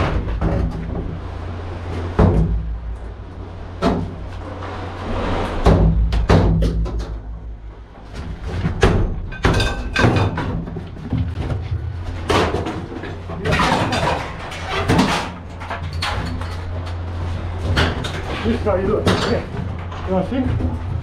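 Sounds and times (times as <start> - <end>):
scrap knocking and clattering: 0.0 - 2.9, 3.7 - 21.0
low engine hum: 0.0 - 9.4, 10.4 - 21.0.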